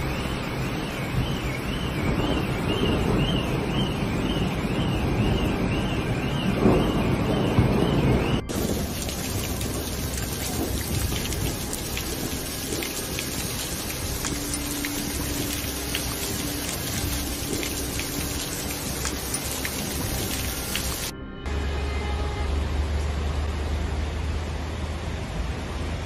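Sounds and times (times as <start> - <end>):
heavy rain pouring: 0.0 - 21.1.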